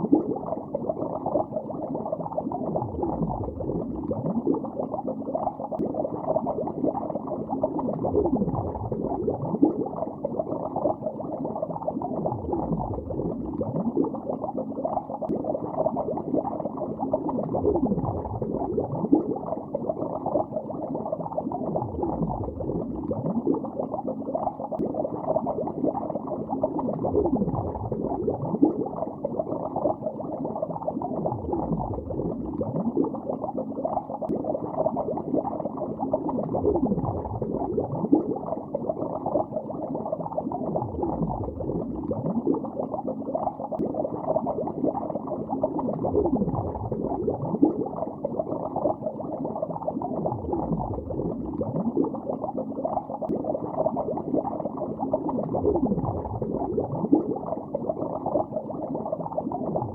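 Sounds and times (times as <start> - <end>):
underwater bubbling and gurgles: 0.0 - 59.9.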